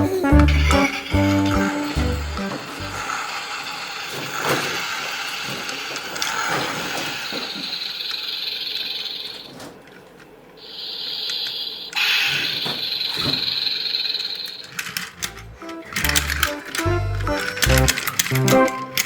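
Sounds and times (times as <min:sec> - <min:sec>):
toy car mechanism whirring and clicking: 0:00.5 - 0:09.6, 0:10.6 - 0:19.0.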